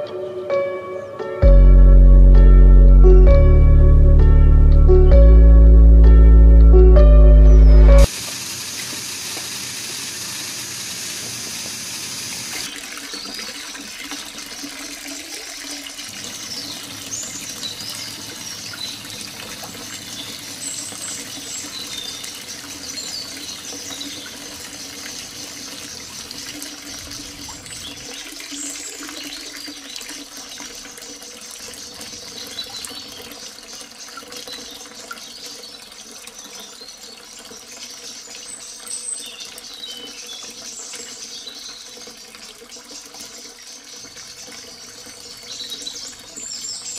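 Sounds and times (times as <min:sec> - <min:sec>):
water pouring into a tank: 0:08.0 - 0:46.9
water trickling along soil: 0:08.0 - 0:46.9.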